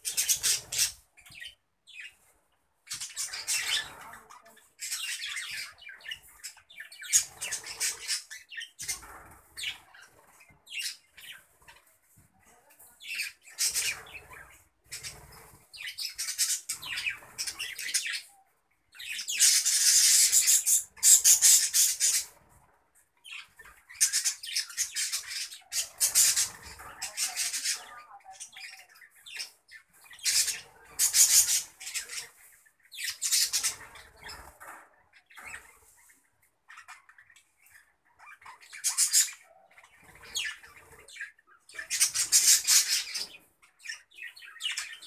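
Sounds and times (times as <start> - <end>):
budgerigars chattering and squawking: 0.0 - 2.3, 2.9 - 45.0.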